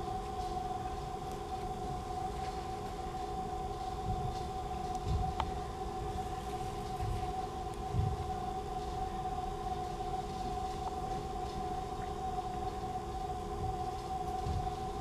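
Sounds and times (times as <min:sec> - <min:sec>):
steady drone of held tones: 0:00.0 - 0:15.0.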